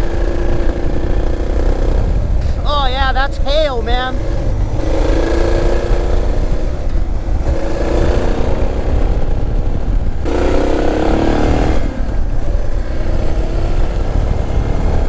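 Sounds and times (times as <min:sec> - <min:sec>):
motorcycle engine accelerating: 0:00.0 - 0:15.0
wind rumble on microphone: 0:00.0 - 0:15.0.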